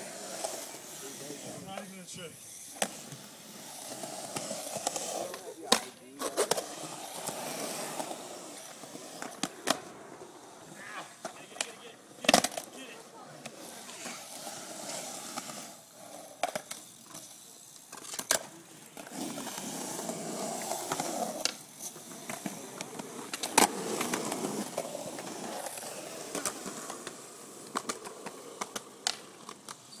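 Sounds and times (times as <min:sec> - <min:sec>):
skateboard wheels rolling on concrete: 0:00.0 - 0:30.0
skateboard clacking on concrete: 0:04.0 - 0:10.0, 0:10.9 - 0:30.0.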